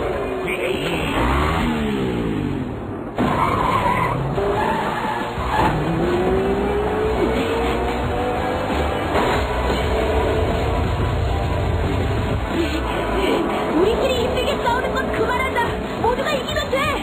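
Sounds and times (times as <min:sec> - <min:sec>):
noisy rush: 0:00.0 - 0:17.0.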